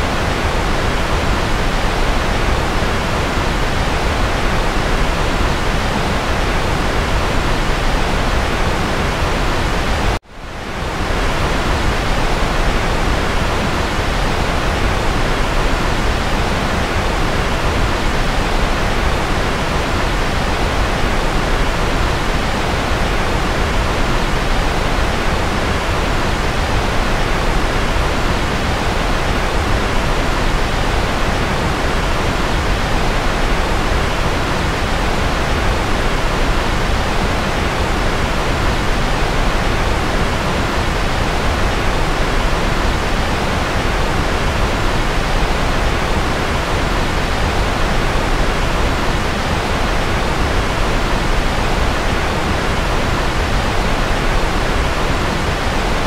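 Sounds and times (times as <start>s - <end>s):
white-noise hiss: 0.0s - 56.0s.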